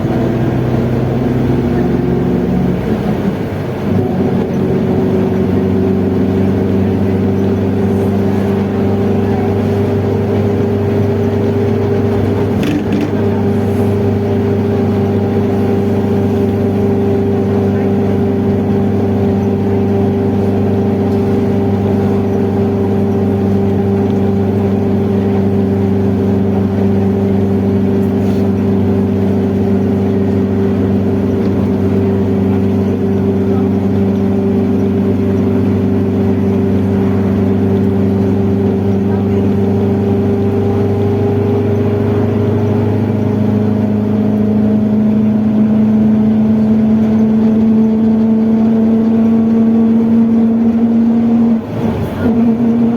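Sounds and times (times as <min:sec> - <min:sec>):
bus drive shaft droning: 0:00.0 - 0:52.9.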